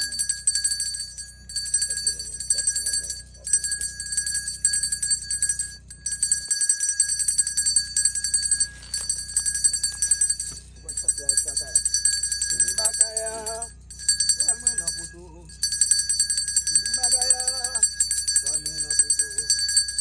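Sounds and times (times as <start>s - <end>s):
handbell ringing rapidly: 0.0s - 20.0s.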